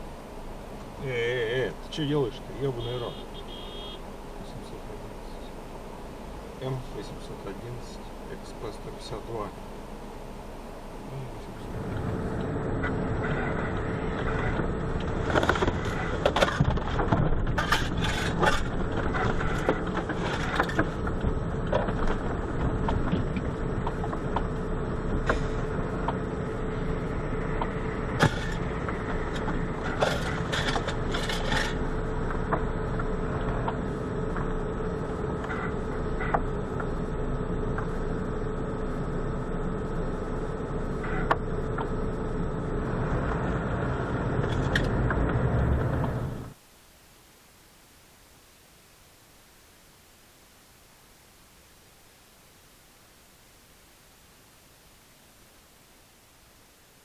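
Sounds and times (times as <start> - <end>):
car road and engine noise: 0.0 - 46.8.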